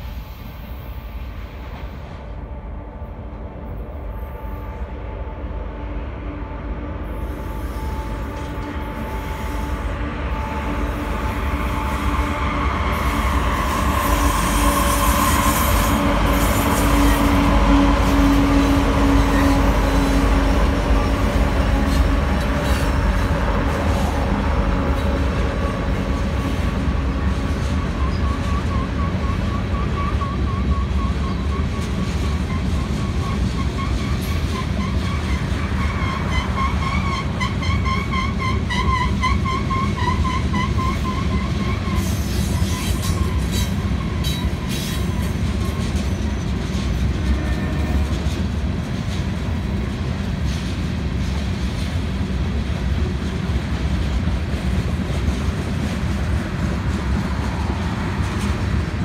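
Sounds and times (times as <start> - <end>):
diesel locomotives rumbling: 0.0 - 59.0.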